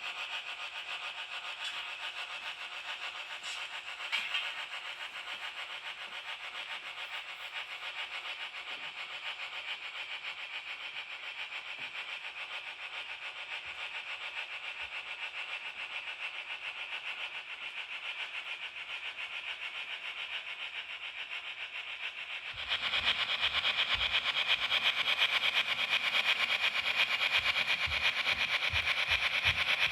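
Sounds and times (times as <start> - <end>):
model train motor whirring: 0.1 - 29.9.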